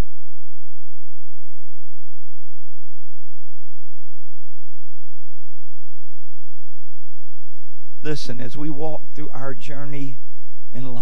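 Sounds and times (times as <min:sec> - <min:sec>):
steady electronic tone: 0:00.0 - 0:09.4.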